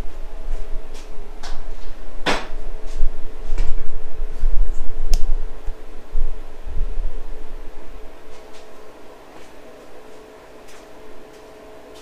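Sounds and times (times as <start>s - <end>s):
low handling rumble: 0.0s - 11.9s
steady low hum: 0.0s - 12.0s.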